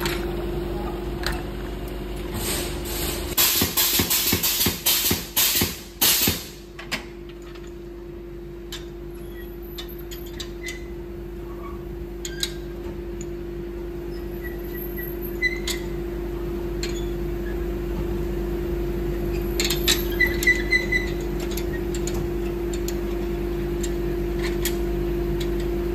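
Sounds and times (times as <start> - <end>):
steady machine hum: 0.0 - 25.9.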